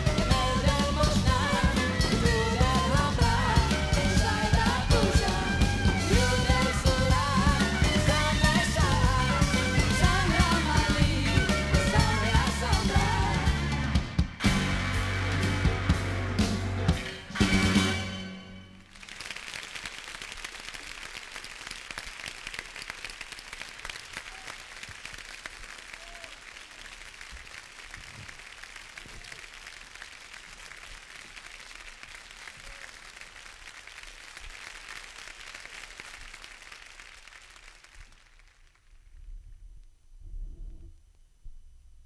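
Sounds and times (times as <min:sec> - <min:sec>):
audience applauding: 0:00.0 - 0:14.7, 0:18.8 - 0:39.0.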